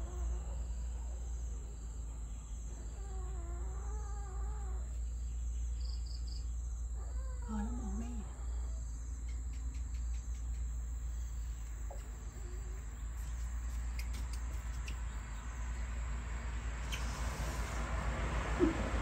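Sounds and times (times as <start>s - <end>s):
faint insect chirps: 0.0s - 18.9s.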